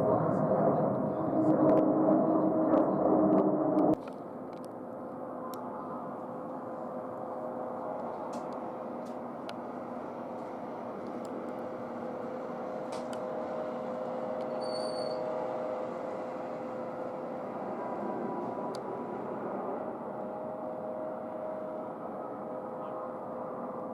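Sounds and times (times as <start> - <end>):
distant jet engines: 0.0 - 23.9
faint steady whine: 0.0 - 23.9.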